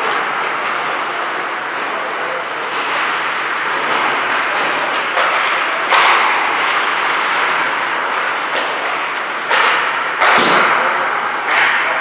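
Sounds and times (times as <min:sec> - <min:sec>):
ice rink rushing noise: 0:00.0 - 0:12.0.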